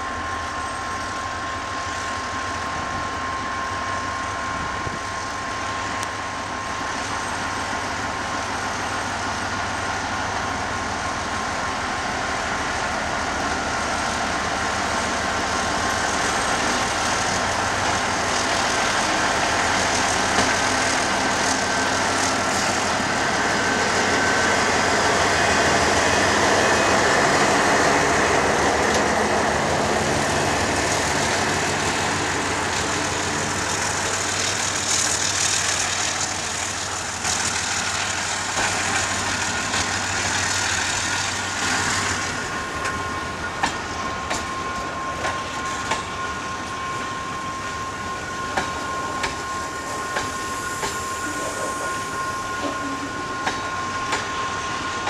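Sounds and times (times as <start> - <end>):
diesel locomotive engine drone: 0.0 - 55.0
wagons rumbling on rails: 0.0 - 55.0.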